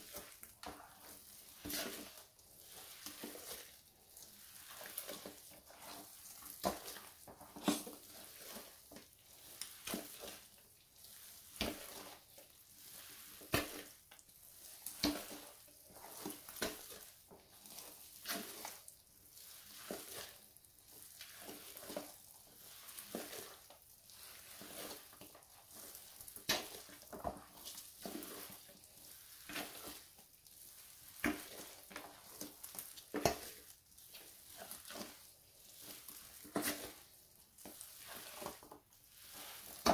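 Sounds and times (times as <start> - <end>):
crackling fizz of pressed crumb: 0.0 - 39.9.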